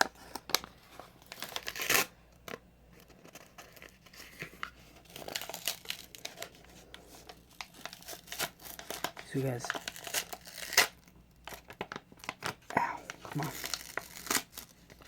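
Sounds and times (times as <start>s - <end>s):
wrapper crinkling and tearing: 0.0s - 15.0s.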